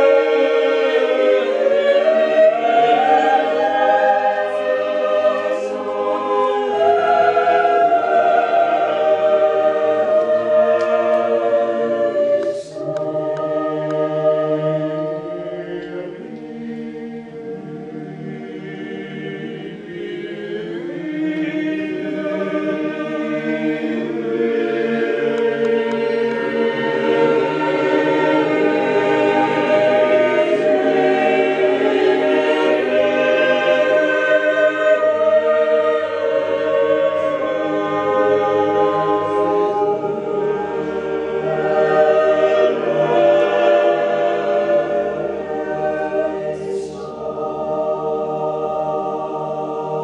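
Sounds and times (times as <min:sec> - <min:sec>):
mixed choir singing a cappella: 0:00.0 - 0:50.0.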